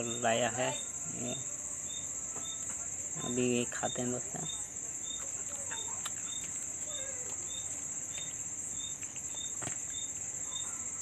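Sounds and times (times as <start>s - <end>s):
crickets chorus: 0.0s - 11.0s
insect chirping: 0.0s - 11.0s.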